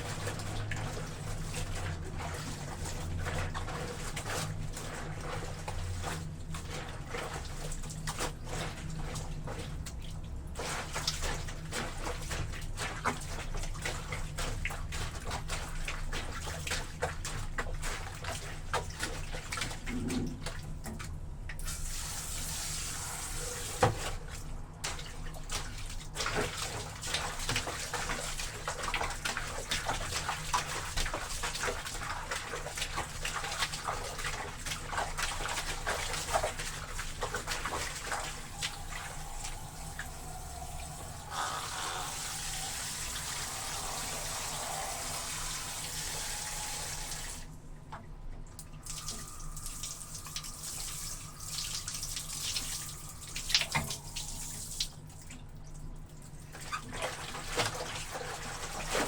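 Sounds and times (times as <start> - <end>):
laundry splashing and squelching: 0.0 - 59.0.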